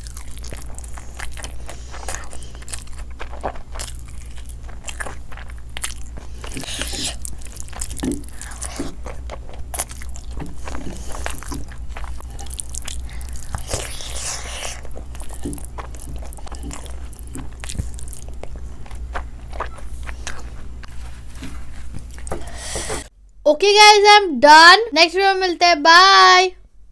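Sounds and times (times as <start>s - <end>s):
person chewing: 0.0s - 23.1s
low steady hum: 0.0s - 26.9s.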